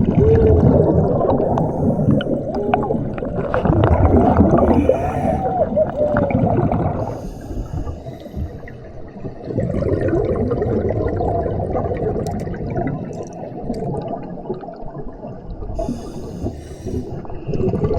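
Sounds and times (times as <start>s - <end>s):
sea water gurgling: 0.0s - 17.9s.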